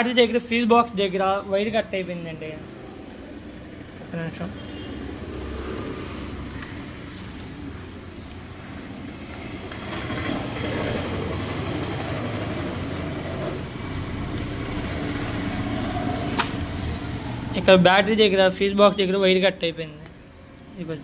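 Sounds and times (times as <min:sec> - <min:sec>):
vehicle engine running: 0:00.5 - 0:18.9.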